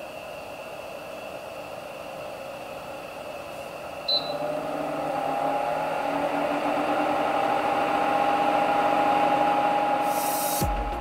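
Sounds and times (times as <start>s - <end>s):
air purifier fan whirring: 0.0s - 11.0s.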